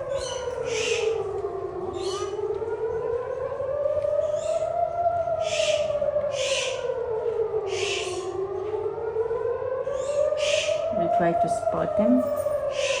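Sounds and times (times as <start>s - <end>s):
air raid siren wailing: 0.0s - 13.0s.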